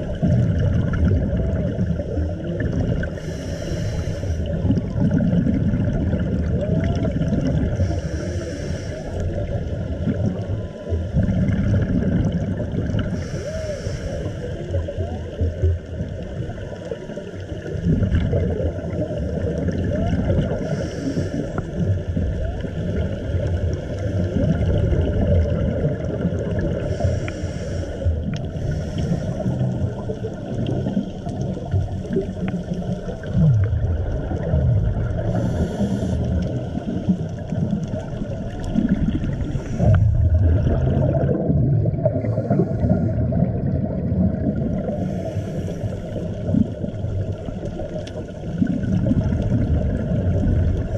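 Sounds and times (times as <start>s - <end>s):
low underwater rumble: 0.0s - 50.9s
regulator exhaust bubbles hissing: 0.0s - 50.9s.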